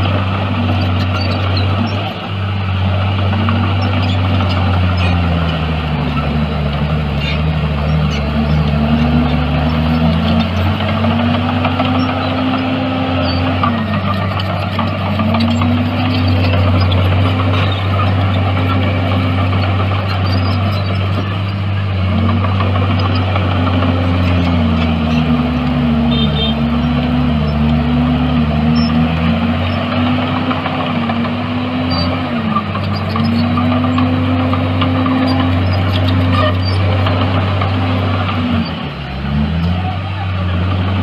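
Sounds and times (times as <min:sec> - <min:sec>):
diesel engine droning under load: 0:00.0 - 0:41.0.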